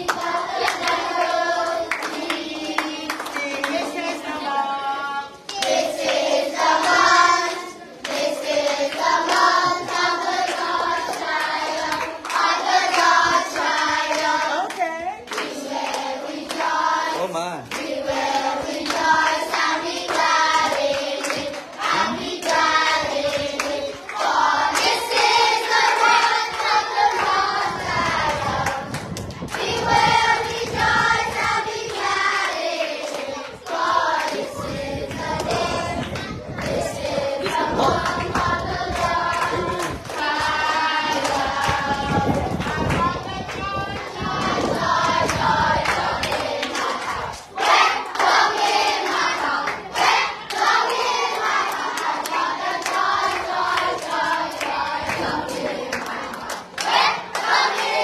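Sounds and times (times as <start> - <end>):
children clapping: 0.0 - 4.1, 5.4 - 58.0
children singing in chorus: 0.0 - 14.6, 15.3 - 58.0.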